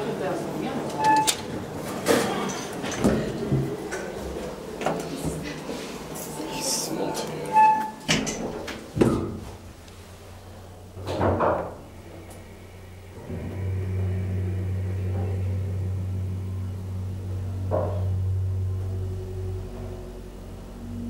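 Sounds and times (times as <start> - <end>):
elevator pump motor humming: 2.6 - 21.0.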